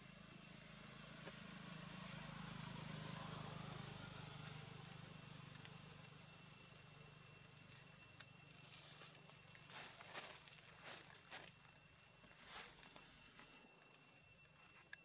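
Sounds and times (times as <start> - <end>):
distant vehicle engine drone: 0.0 - 14.4.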